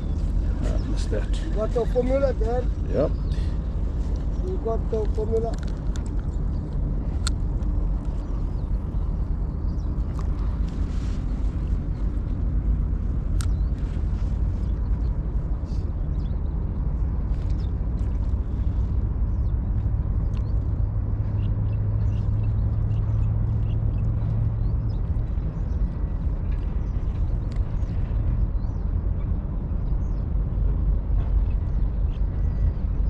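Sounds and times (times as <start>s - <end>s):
low hum: 0.0s - 33.0s
low rumble: 0.0s - 33.0s.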